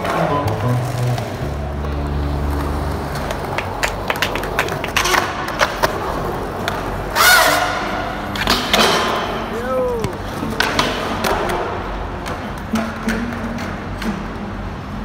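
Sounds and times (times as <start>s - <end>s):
skateboard clacks and knocks: 0.0s - 15.0s
skateboard wheels rolling on concrete: 0.0s - 15.0s.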